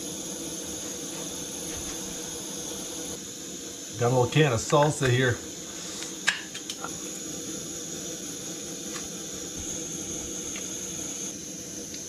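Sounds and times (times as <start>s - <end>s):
food hissing on a stove: 0.0s - 12.0s.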